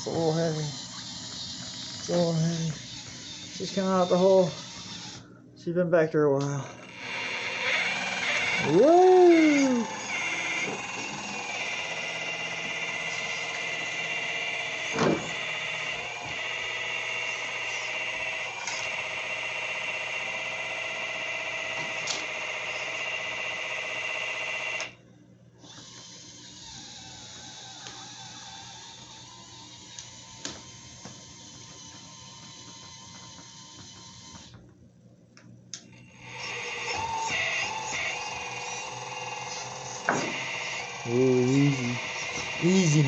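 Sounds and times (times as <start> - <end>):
rc excavator drive whining: 0.0 - 5.2, 6.8 - 24.9, 25.6 - 34.5, 36.0 - 43.0.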